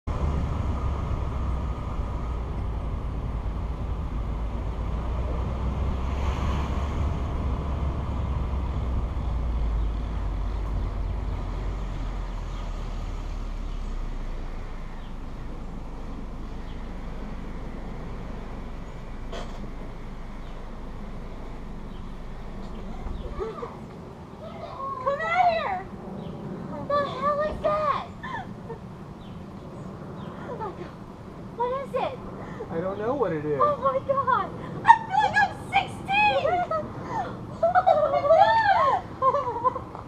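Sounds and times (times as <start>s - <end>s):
car driving rumble: 0.0s - 40.0s.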